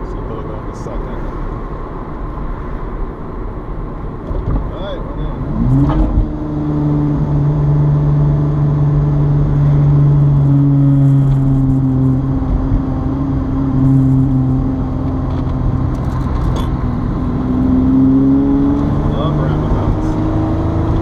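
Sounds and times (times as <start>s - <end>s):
car engine drone: 0.0s - 21.0s
road noise: 0.0s - 21.0s.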